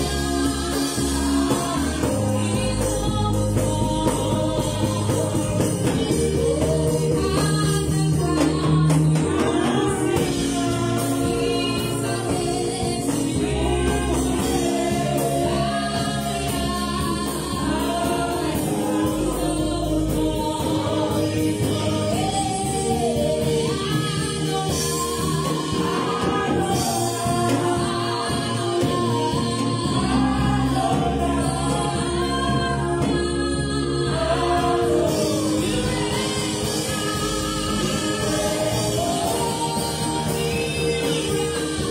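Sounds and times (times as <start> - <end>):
drum kit: 0.0 - 41.9
gospel choir singing: 0.0 - 41.9
keyboard: 0.0 - 41.9.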